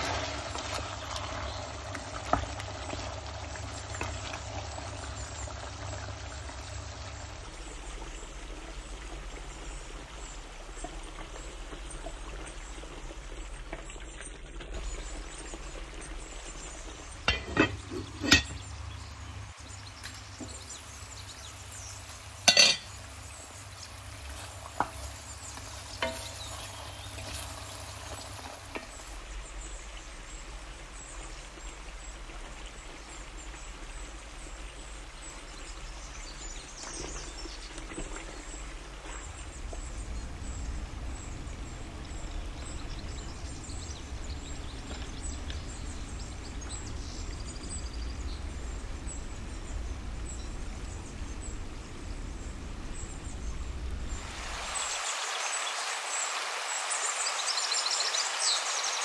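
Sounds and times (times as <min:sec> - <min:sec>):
curry simmering and sizzling: 0:00.0 - 0:59.0.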